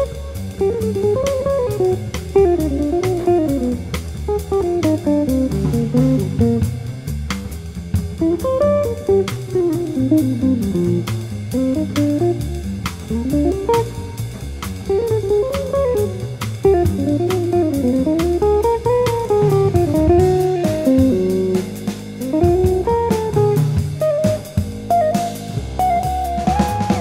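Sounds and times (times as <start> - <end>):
bass: 0.0 - 27.0
drum kit beat: 0.0 - 27.0
jazz guitar melody: 0.0 - 27.0.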